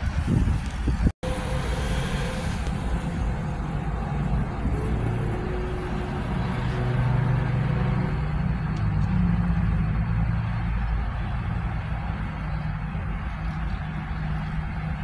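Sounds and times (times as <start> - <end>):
cars and trucks passing: 0.0 - 15.0.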